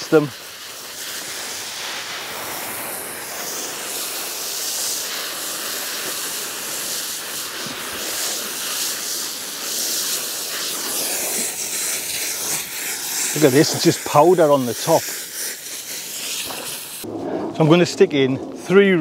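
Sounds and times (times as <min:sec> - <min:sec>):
hose spray nozzle hissing: 0:00.0 - 0:17.1.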